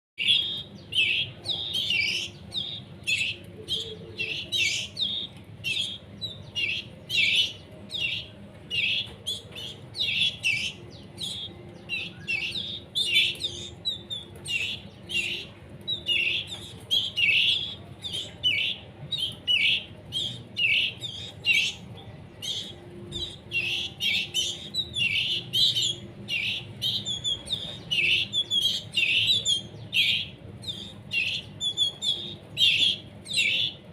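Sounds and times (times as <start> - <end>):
canary chicks begging chirps: 0.2 - 33.9.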